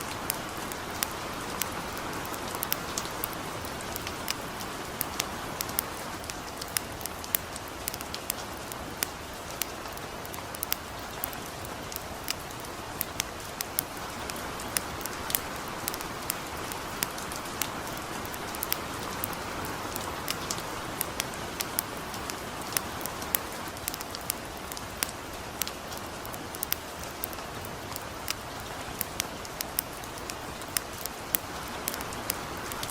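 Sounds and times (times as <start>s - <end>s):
campfire crackling and popping: 0.0s - 32.9s
light rain hiss: 0.0s - 32.9s.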